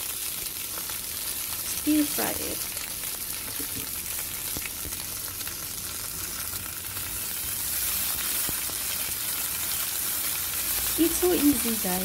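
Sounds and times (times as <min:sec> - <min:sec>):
bean sprouts sizzling in wok: 0:00.0 - 0:12.0.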